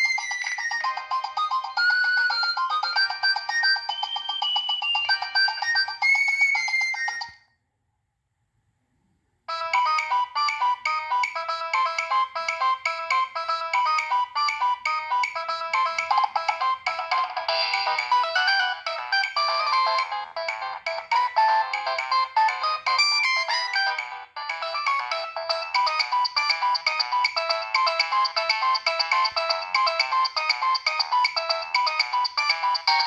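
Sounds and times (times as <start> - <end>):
mobile phone ringtone: 0.0 - 7.4, 9.5 - 33.0.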